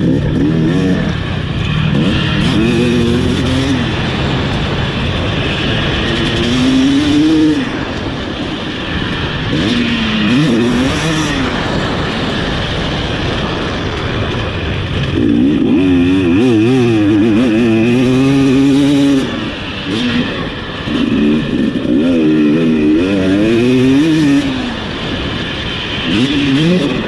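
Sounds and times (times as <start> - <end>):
motocross engine revving: 0.0 - 27.0.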